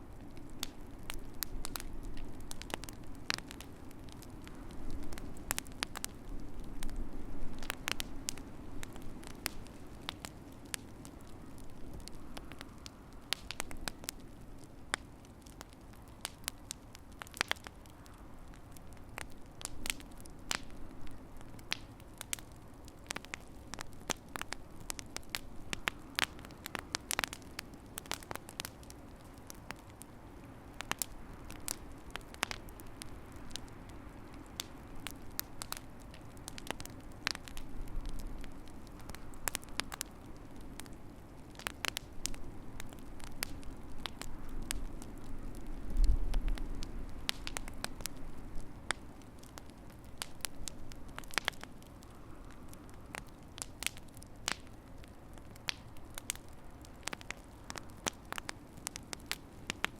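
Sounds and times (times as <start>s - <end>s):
low rumble of burning: 0.0s - 59.9s
wood fire crackling: 0.0s - 59.9s.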